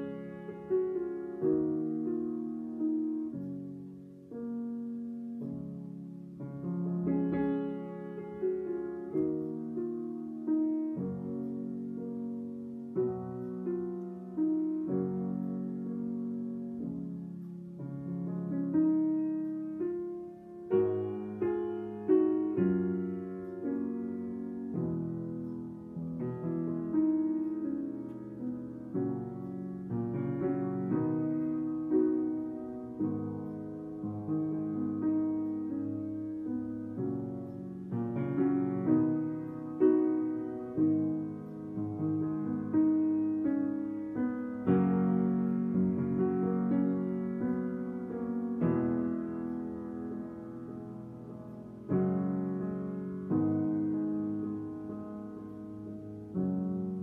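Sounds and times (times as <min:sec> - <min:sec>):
piano playing slow chords: 0:00.0 - 0:57.0.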